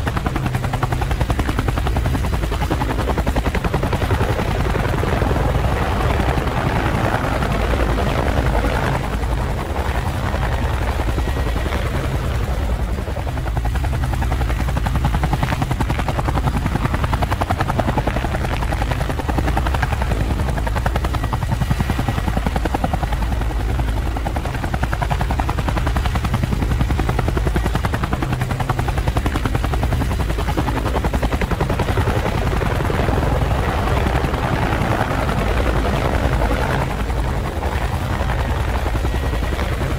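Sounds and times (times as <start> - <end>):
drone propellers whirring: 0.0 - 39.9.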